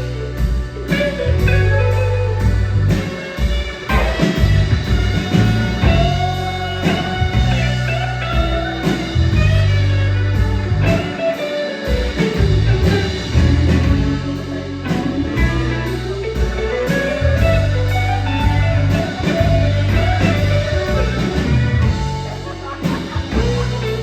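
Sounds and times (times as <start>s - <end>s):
drums with cymbal beat: 0.0s - 24.0s
electric guitar line: 0.0s - 24.0s
sustained bass notes: 0.0s - 24.0s.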